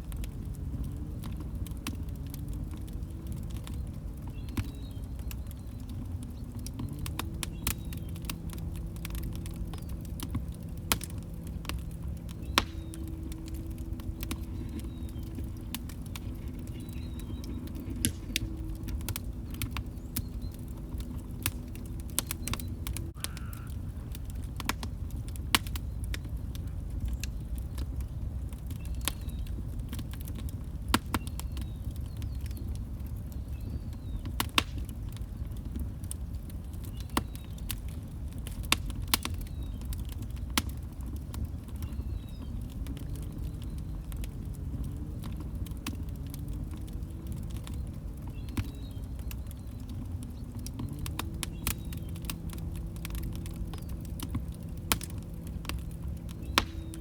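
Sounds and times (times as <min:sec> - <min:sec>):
fire pops: 0:00.0 - 0:57.0
log fire crackling: 0:00.0 - 0:57.0.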